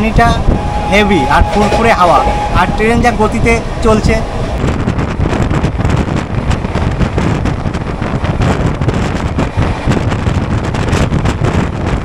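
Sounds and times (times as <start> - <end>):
train wheels rumbling on track: 0.0 - 12.0
wind rushing: 0.0 - 12.0.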